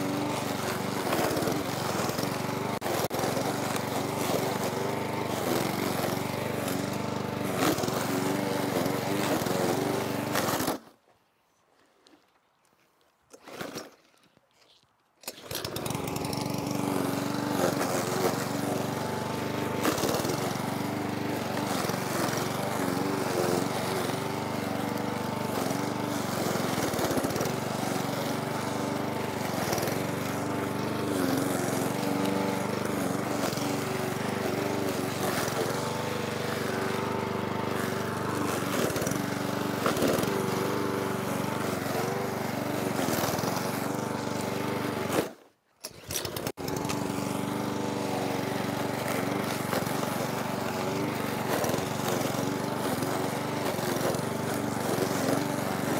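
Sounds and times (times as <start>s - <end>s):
lawnmower engine cutting grass: 0.0s - 11.1s, 13.3s - 55.9s.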